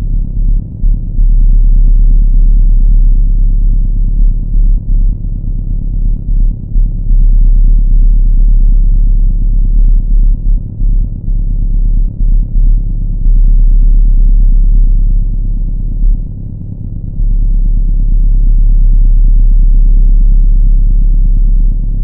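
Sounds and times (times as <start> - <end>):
deep rumbling drone: 0.0 - 22.0.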